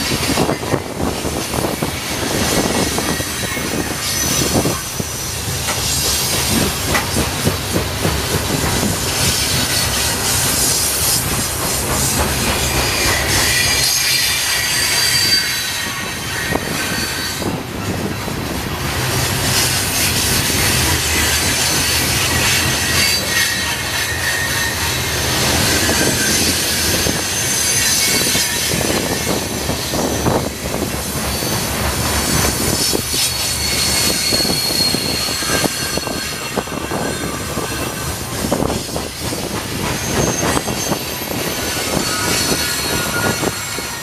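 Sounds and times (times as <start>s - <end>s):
high-pitched wheel squeal: 0.0s - 6.7s, 12.7s - 18.2s, 19.5s - 44.0s
train wheels rumbling over rail joints: 0.0s - 44.0s.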